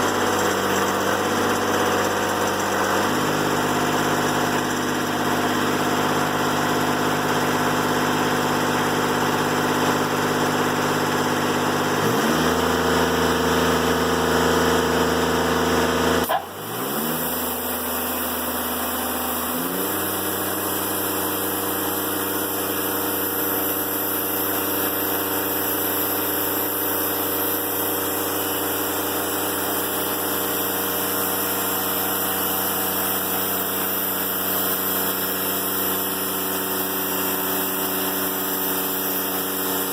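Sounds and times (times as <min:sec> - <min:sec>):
sawmill diesel engine running: 0:00.0 - 0:39.9.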